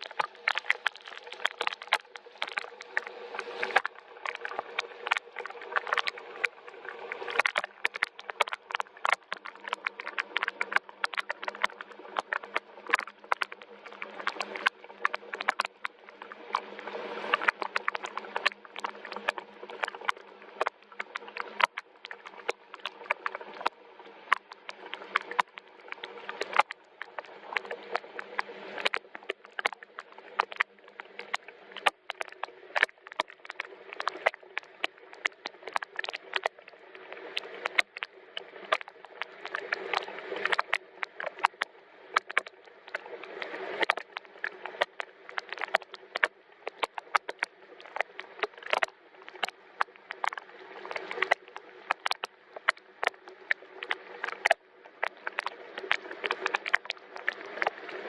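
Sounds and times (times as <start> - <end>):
raindrops tapping on surface: 0.0 - 6.5, 7.3 - 16.6, 17.3 - 57.8
gentle rain hiss: 0.0 - 58.0.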